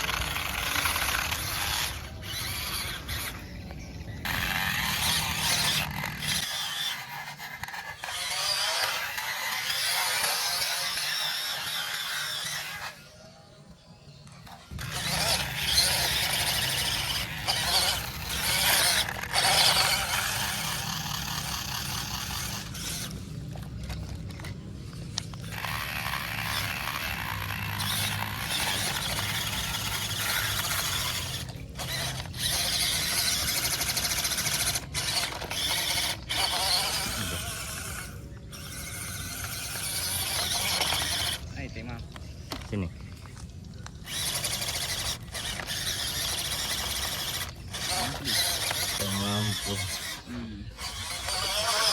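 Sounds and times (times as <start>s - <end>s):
electric motor and gearbox whining: 0.0s - 51.9s.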